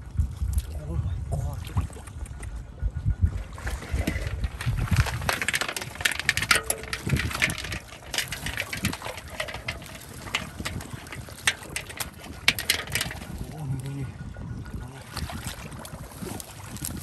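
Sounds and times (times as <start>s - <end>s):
muddy water splashing: 3.3s - 17.0s.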